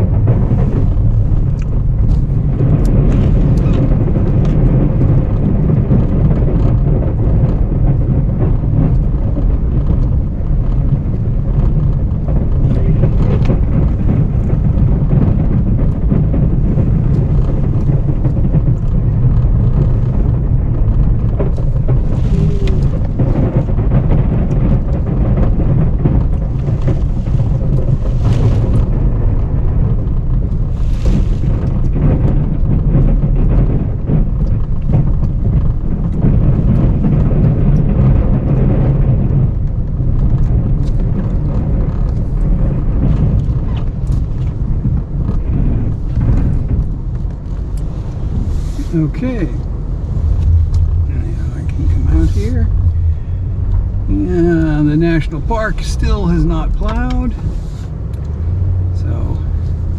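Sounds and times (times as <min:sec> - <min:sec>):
pickup truck engine running: 0:00.0 - 0:59.9
road rumble: 0:00.0 - 0:59.9.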